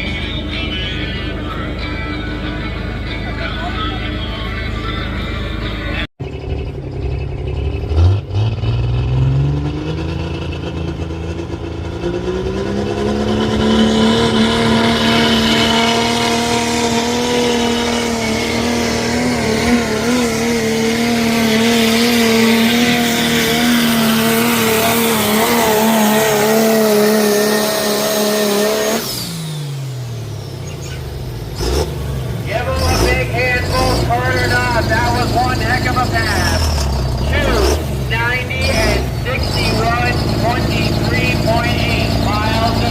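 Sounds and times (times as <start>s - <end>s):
truck engine revving under load: 0.0s - 42.9s.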